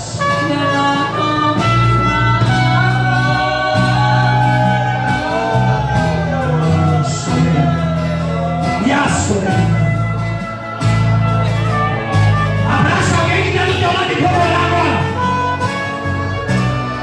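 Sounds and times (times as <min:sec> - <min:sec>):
guitar: 0:00.0 - 0:17.0
people singing: 0:00.0 - 0:17.0
steady bass line: 0:00.0 - 0:17.0.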